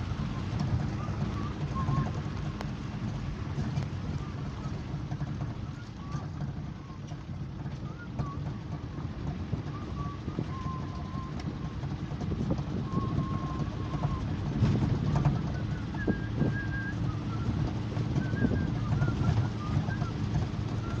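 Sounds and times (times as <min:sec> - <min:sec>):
car engine and road rumble: 0:00.0 - 0:21.0
wind buffeting microphone: 0:00.0 - 0:21.0.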